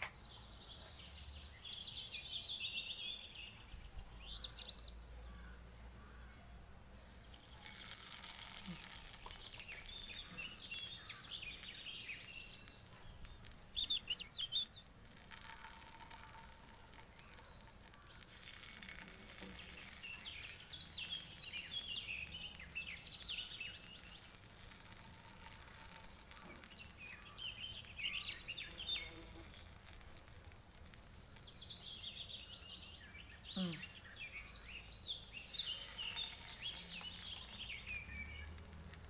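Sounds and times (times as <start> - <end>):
birds chirping and singing: 0.0 - 6.5, 7.2 - 39.0
batter sizzling in hot oil: 7.0 - 39.0.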